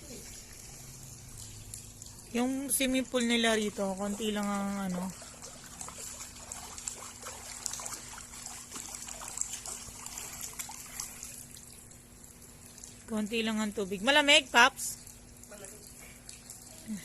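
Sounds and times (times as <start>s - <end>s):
water trickling faintly: 0.0s - 17.0s.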